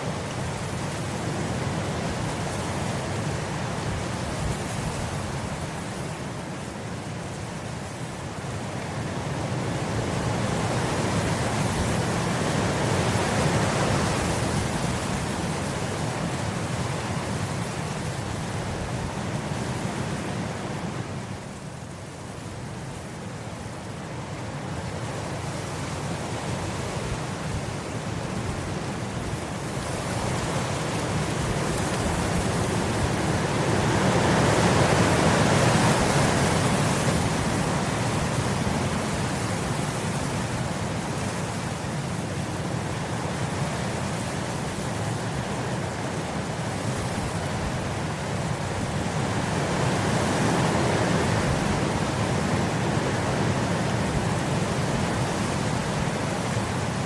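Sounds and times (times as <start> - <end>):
wind blowing across grass: 0.0 - 57.0.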